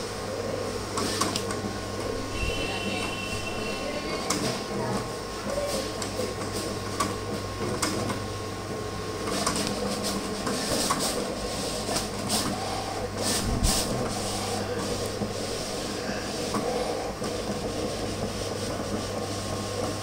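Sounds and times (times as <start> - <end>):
cutting plotter motor hum: 0.0 - 20.0.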